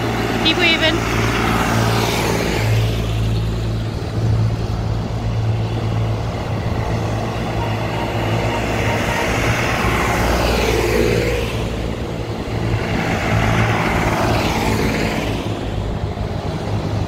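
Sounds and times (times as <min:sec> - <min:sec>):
tractor engines driving past: 0:00.0 - 0:17.0.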